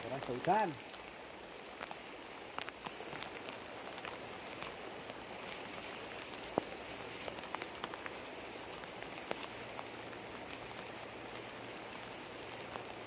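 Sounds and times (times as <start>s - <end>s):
rain falling: 0.0s - 13.0s
drops ticking on surfaces: 0.2s - 11.6s.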